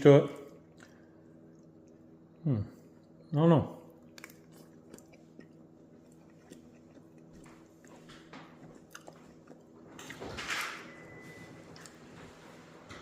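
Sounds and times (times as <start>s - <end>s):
person chewing food: 0.3s - 10.3s, 11.4s - 12.5s.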